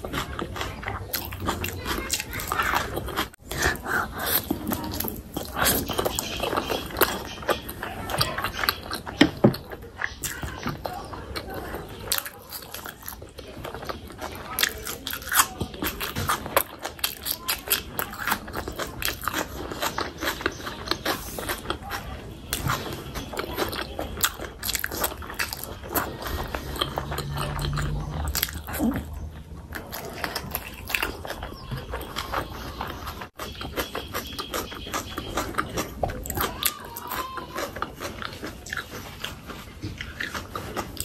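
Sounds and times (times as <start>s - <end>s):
person chewing with crunching: 0.0s - 41.0s.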